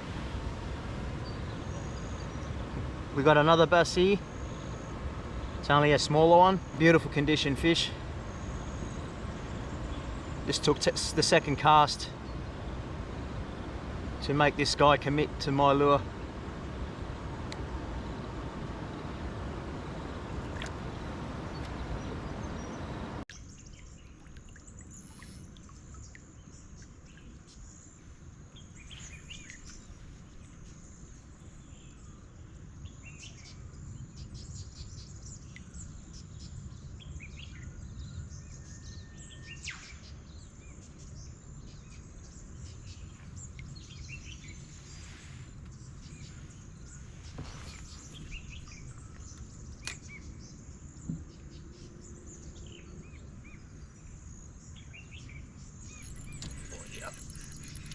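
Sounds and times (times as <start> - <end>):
wild birds chirping: 0.0 - 57.9.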